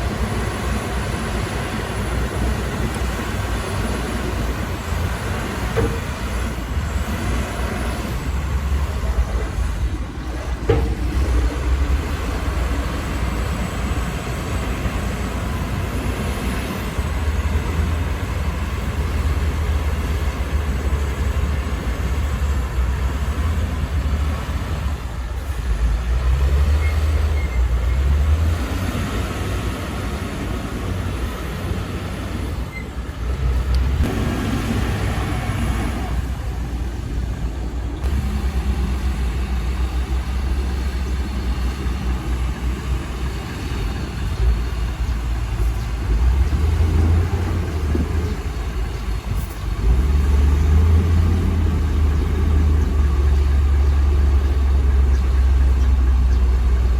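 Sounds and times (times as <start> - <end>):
heavy diesel machinery rumbling: 0.0 - 56.9.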